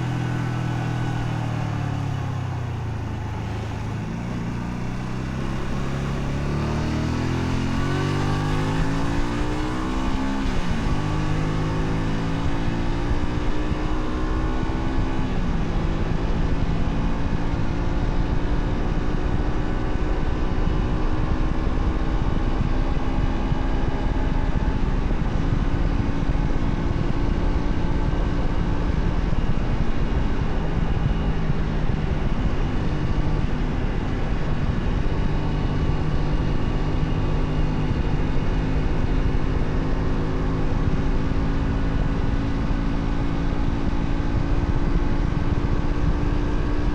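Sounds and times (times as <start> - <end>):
motorcycle engine running: 0.0 - 46.9
wind and road noise: 0.0 - 46.9.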